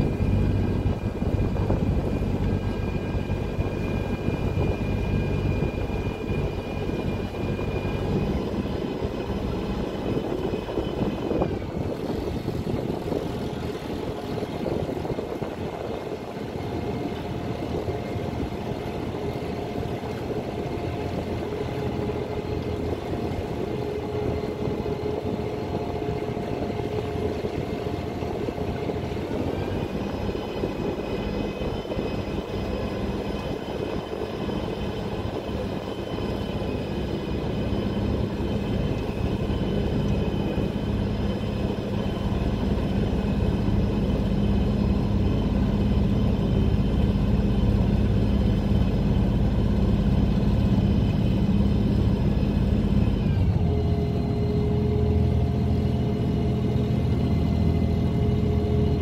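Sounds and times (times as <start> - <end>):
ferry engine running: 0.0 - 59.0.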